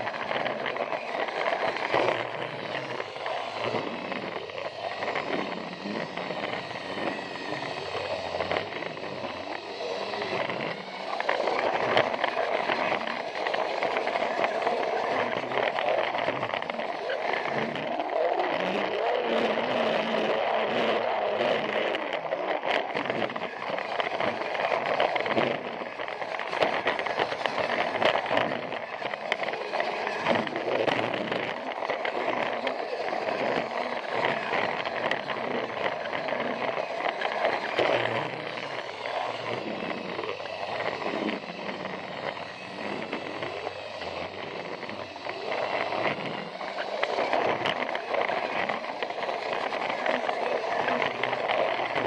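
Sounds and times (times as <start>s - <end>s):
toy train motor whir: 0.0s - 52.0s
wheels rattling on plastic track: 0.0s - 52.0s.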